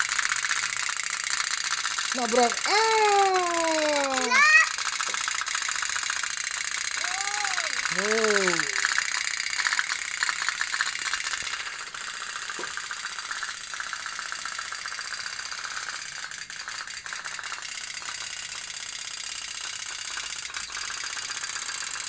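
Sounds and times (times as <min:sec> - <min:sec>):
toy steam boats putt-putting: 0:00.0 - 0:22.0.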